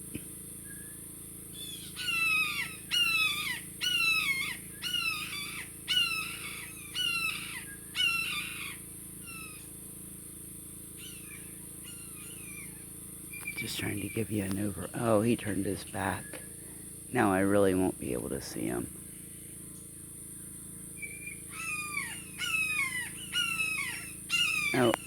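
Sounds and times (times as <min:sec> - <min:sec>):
blue jay jeer calls: 0:01.5 - 0:09.7, 0:11.0 - 0:18.8, 0:21.0 - 0:25.0.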